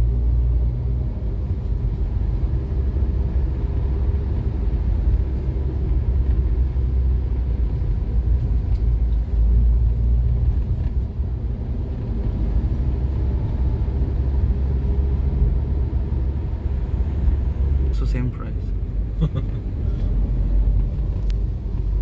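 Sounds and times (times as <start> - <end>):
motor vehicle rumbling: 0.0 - 22.0.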